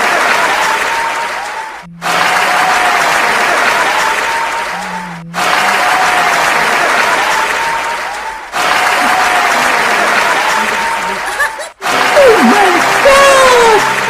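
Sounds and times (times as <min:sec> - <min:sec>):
applause: 0:00.0 - 0:14.0.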